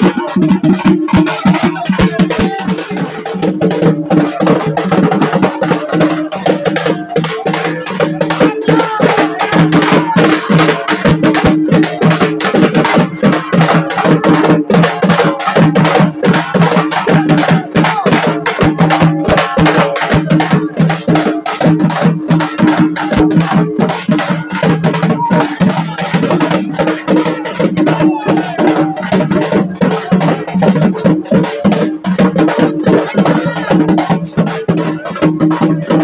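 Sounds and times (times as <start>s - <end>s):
rapid festival drumming: 0.0s - 36.0s.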